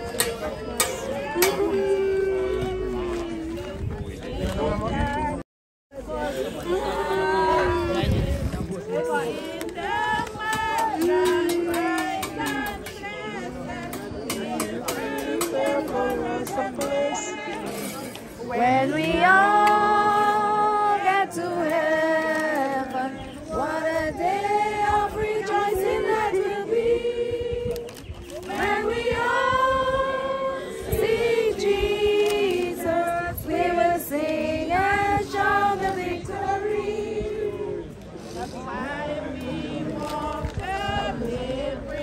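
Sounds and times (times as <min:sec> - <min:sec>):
crowd singing a hymn: 0:00.0 - 0:05.4, 0:06.0 - 0:42.0.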